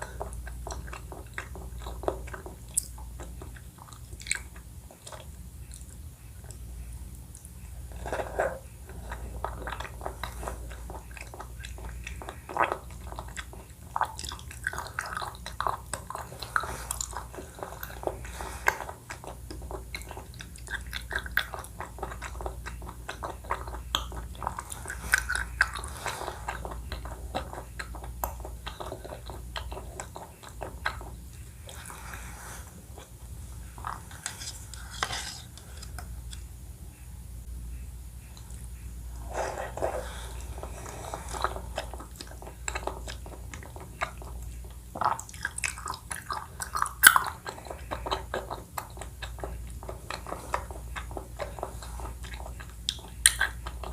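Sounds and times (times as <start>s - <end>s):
close chewing wet clicks: 0.0s - 7.7s, 8.8s - 32.3s, 39.9s - 53.9s
faint steady hum: 0.0s - 53.9s.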